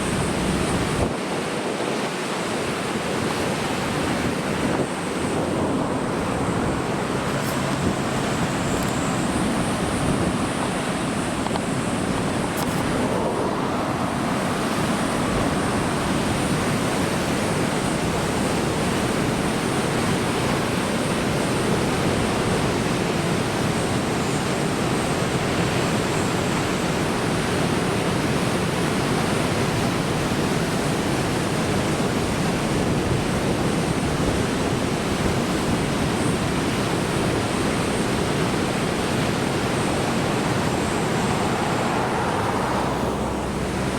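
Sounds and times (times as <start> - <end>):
heavy surf breaking: 0.0 - 23.8, 31.2 - 43.9.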